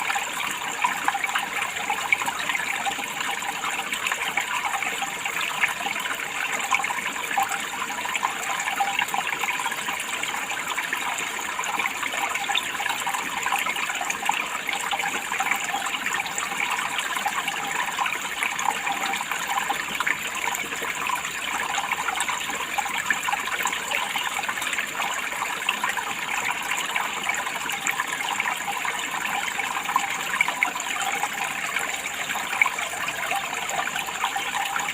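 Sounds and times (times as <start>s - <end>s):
water trickling and splashing: 0.0s - 34.9s.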